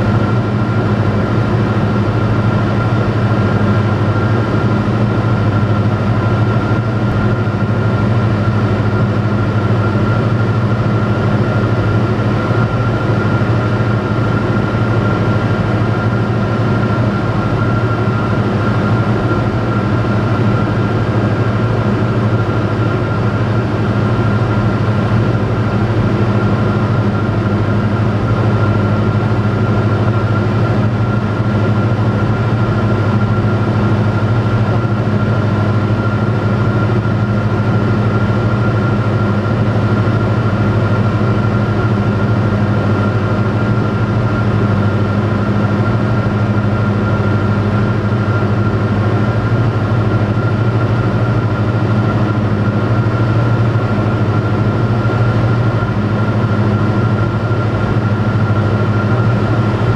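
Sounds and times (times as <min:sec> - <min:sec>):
aircraft engine drone in cockpit: 0:00.0 - 0:59.9.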